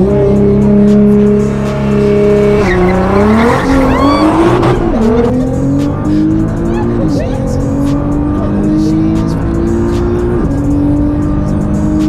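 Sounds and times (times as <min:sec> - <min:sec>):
car engine revving and accelerating: 0:00.0 - 0:12.0.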